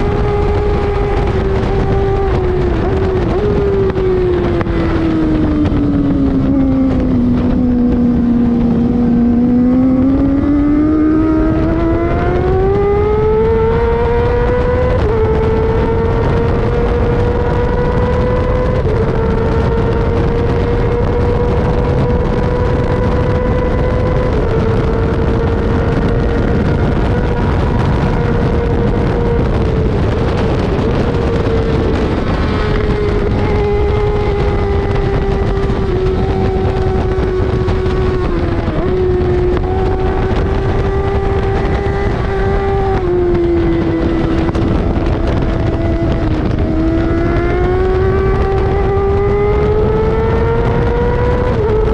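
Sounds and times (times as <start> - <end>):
motorcycle engine at high revs: 0.0 - 51.9
wind rush on microphone: 0.0 - 51.9.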